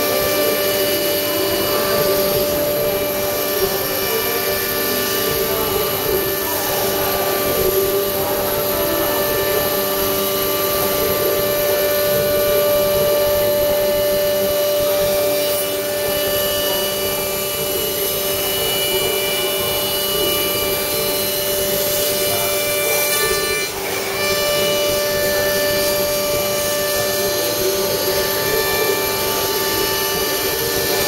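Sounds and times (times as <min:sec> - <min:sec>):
bit rasping through wood: 0:00.0 - 0:31.0
router spindle whining: 0:00.0 - 0:31.0.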